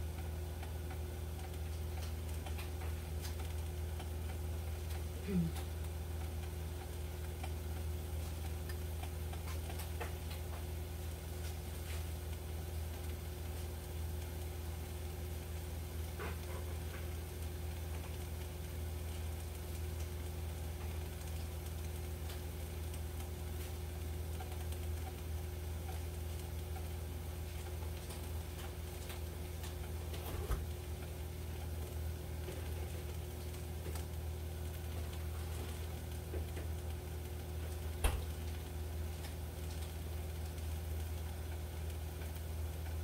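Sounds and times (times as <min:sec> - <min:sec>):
food pops and ticks in pan: 0:00.0 - 0:43.0
steady low hum: 0:00.0 - 0:43.0.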